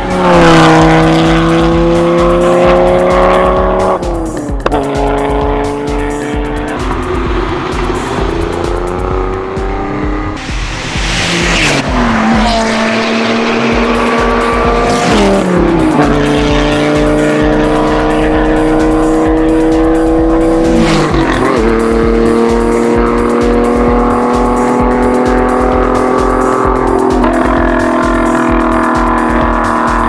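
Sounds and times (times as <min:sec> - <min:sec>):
sports cars passing at speed: 0:00.0 - 0:30.0.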